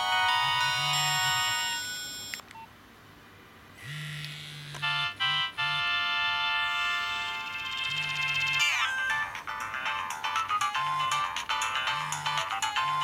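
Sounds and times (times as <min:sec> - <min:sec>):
phone ringtone melody: 0:00.0 - 0:02.4, 0:04.8 - 0:13.0.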